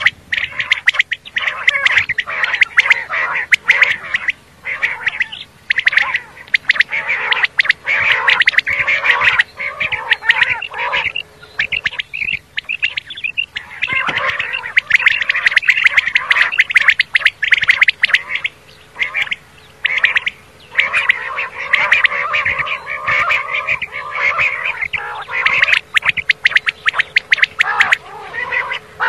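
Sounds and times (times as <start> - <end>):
quail calling: 0.0 - 29.0.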